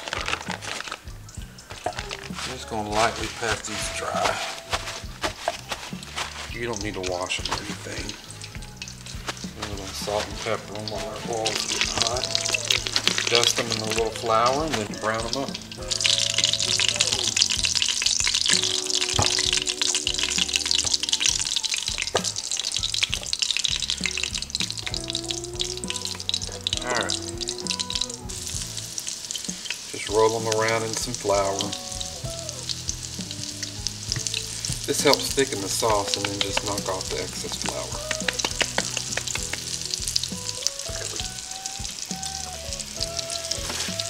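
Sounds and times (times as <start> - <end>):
oil and butter sizzling: 0.0 - 44.0
soft background music: 0.0 - 44.0.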